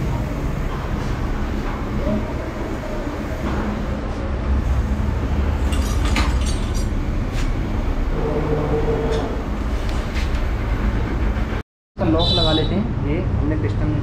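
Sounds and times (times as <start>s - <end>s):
steady hum: 0.0s - 13.2s.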